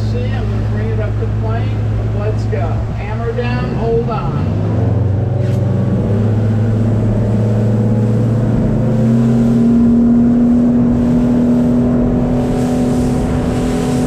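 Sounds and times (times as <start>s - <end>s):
outboard motor at full throttle: 0.0s - 14.0s
water rushing along hull: 0.0s - 14.0s.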